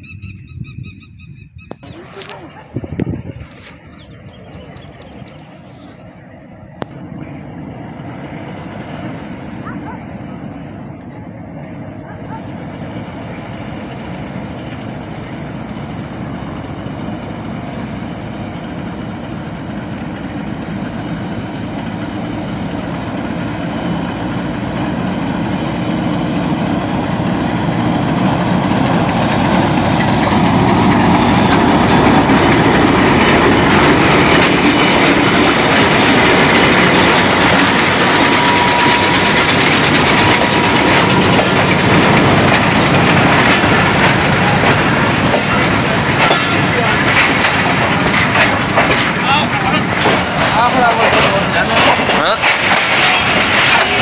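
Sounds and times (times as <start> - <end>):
diesel locomotive engine: 0.0 - 54.0
train wheels rumbling on rails: 0.0 - 54.0.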